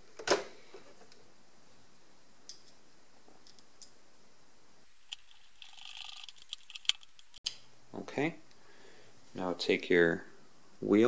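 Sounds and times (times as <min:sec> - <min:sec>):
quiet hiss: 0:00.0 - 0:11.0.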